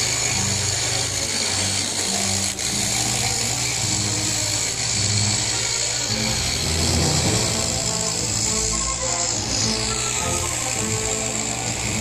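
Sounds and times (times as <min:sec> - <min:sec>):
background music: 0:00.0 - 0:12.0
scroll saw cutting wood: 0:00.0 - 0:12.0.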